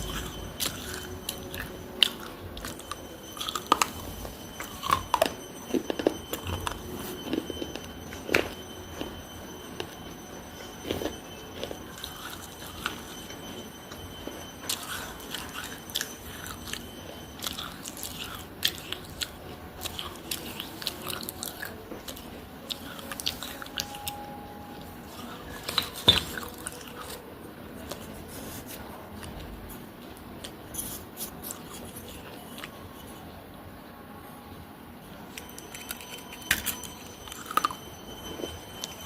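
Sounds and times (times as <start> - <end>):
biting and chewing clay pieces: 0.0 - 33.4, 35.3 - 39.0.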